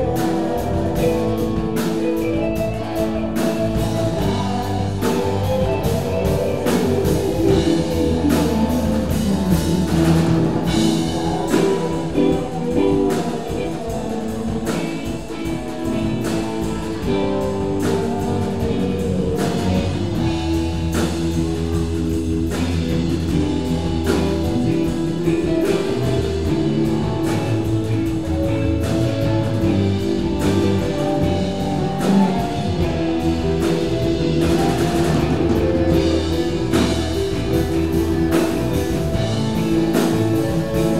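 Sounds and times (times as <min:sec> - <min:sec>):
rock band jamming: 0:00.0 - 0:40.9.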